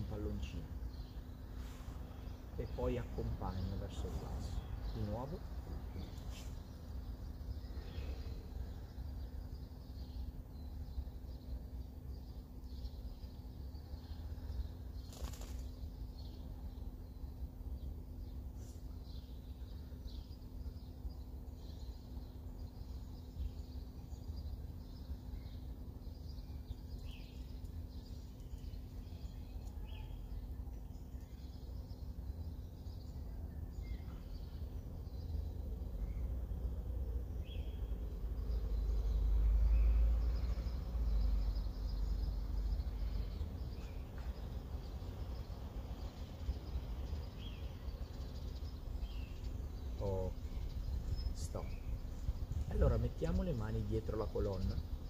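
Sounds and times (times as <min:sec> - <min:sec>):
bird chirps: 0:00.0 - 0:55.0.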